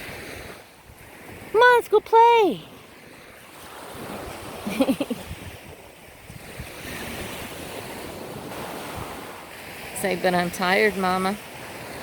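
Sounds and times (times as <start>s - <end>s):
ocean surf washing on beach: 0.0s - 12.0s
wind on microphone: 0.0s - 12.0s.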